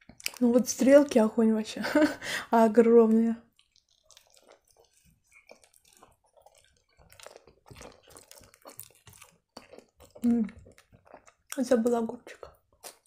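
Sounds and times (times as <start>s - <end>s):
wet chewing mouth clicks: 0.0s - 0.6s, 3.1s - 13.0s.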